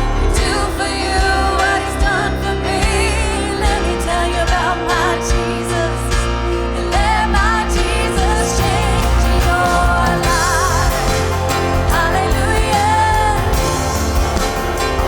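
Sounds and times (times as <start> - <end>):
singers with vibrato: 0.0 - 15.0
worship band playing: 0.0 - 15.0.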